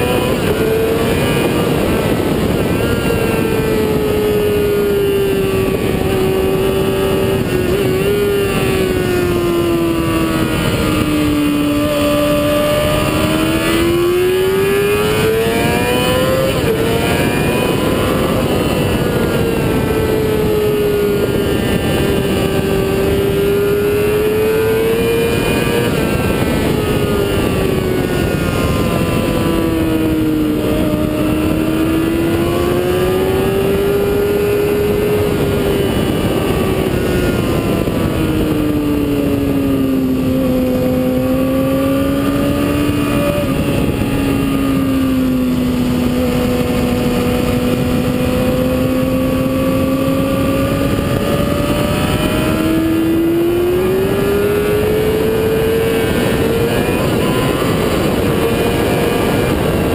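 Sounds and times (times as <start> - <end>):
motorcycle engine running hard: 0.0 - 59.9
wind noise: 0.0 - 59.9.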